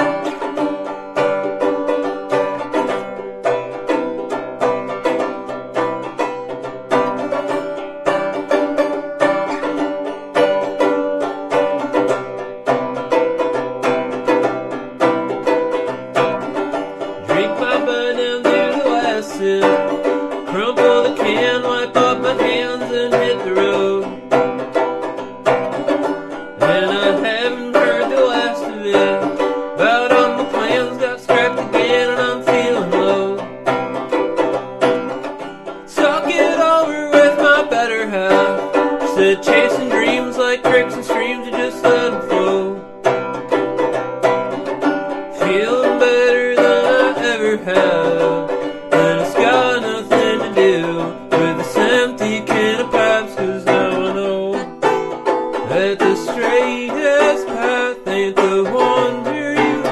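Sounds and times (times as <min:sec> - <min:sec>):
plucked string instruments picking: 0:00.0 - 0:59.9.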